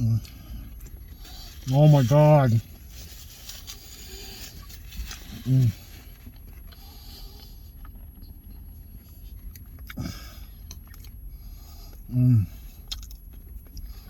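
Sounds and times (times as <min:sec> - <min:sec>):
man chewing: 0:00.0 - 0:14.0.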